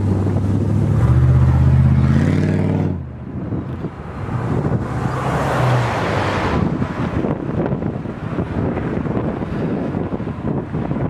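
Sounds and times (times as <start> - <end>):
vehicle engine hum passing by: 0.0 - 11.0
wind buffeting microphone: 0.0 - 11.0.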